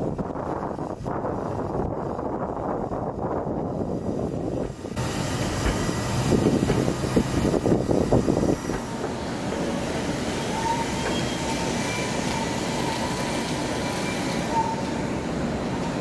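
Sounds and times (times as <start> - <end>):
vehicle rumble and hiss: 0.1 - 16.0.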